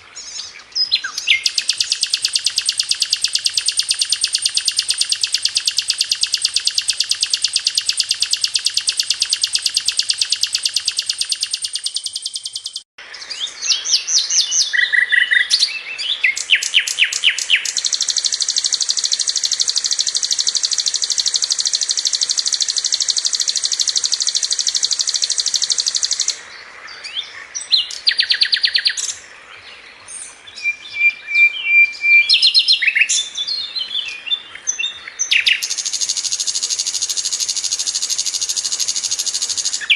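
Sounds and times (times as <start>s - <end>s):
bird trilling and chirping: 0.3s - 26.4s, 27.0s - 29.2s, 30.5s - 39.9s.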